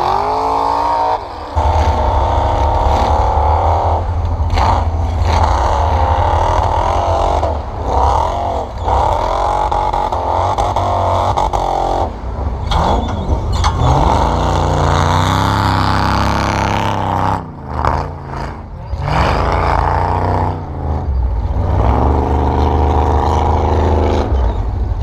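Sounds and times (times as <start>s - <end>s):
engines revving: 0.0s - 25.0s
truck accelerating: 0.0s - 25.0s
steady low rumble: 1.3s - 25.0s.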